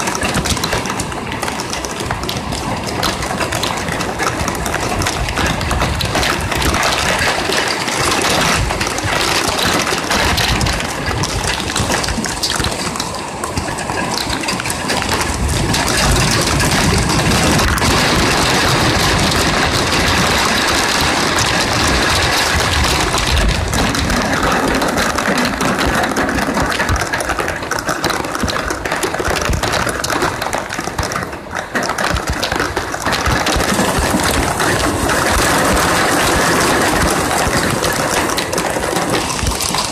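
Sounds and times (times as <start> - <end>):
heavy rain drumming on ledge: 0.0 - 39.9.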